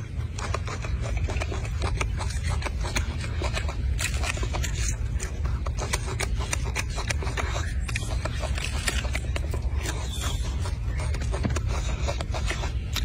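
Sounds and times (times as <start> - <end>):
monkey tearing and chewing peel: 0.0 - 13.0.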